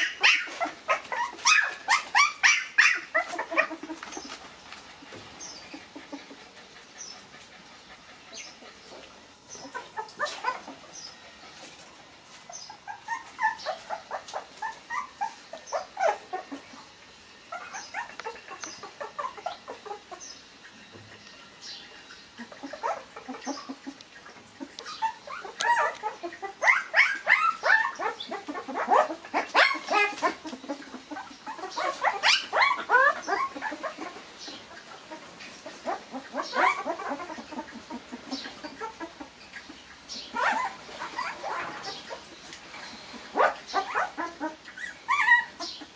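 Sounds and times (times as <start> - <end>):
puppies whimpering and yipping: 0.0 - 45.9.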